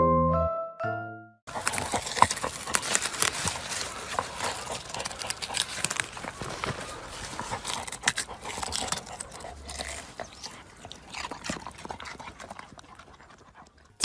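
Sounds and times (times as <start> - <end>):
dog gnawing vegetable crunches: 1.5 - 14.0.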